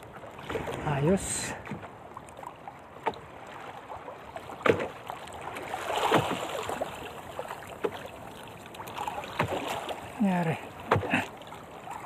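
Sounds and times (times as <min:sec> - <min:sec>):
water lapping against canoe: 0:00.0 - 0:12.0.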